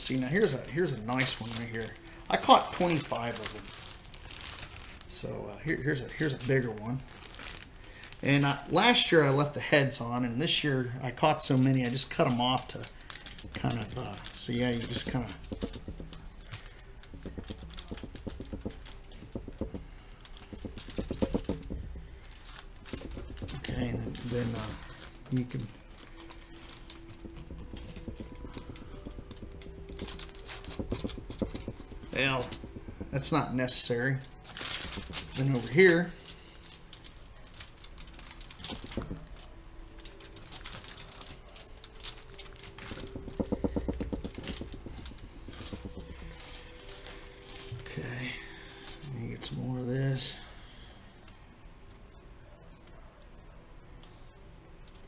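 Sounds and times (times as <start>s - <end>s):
foil rustling: 0.0s - 50.8s.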